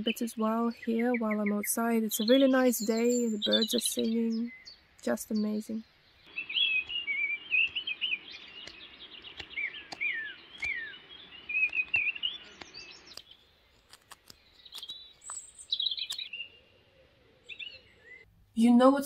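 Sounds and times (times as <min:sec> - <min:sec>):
songbirds singing: 0:00.0 - 0:18.8.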